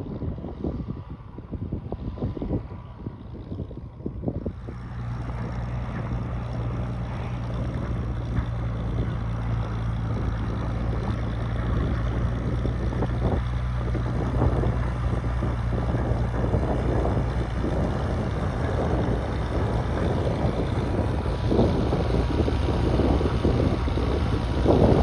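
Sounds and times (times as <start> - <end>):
old tractor engine running: 4.5 - 25.0.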